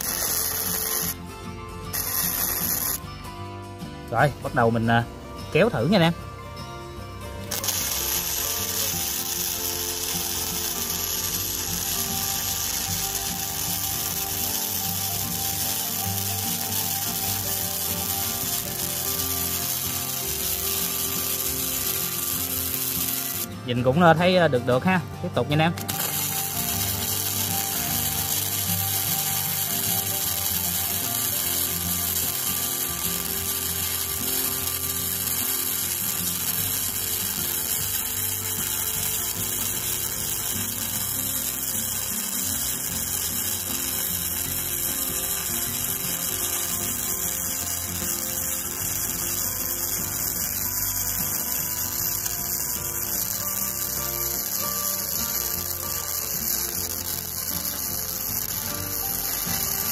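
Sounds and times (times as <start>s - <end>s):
welding arc sizzling: 0.0s - 3.1s, 7.3s - 59.9s.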